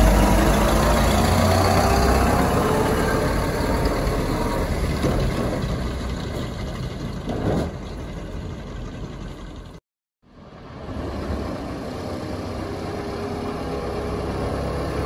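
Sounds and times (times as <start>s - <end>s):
bus engine driving off: 0.0s - 15.0s.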